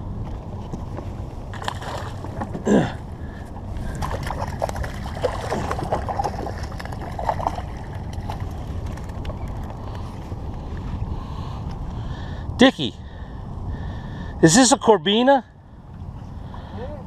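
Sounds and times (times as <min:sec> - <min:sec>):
water around boat: 0:00.0 - 0:17.0
wind: 0:00.0 - 0:17.0.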